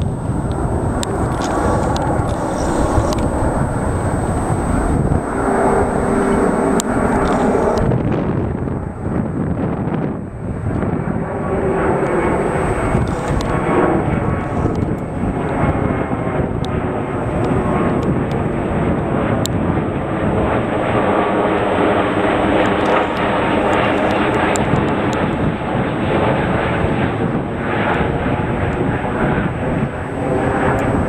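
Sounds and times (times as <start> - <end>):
jet airliner flying overhead: 0.0 - 31.0.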